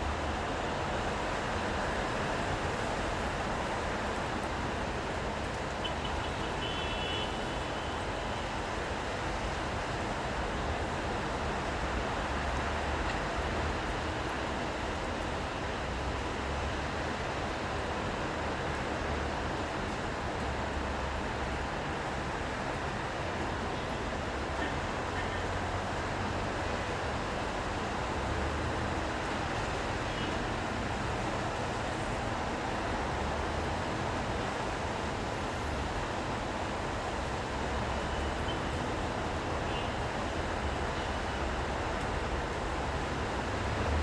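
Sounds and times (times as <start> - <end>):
rain: 0.0 - 44.0
road traffic: 0.0 - 44.0.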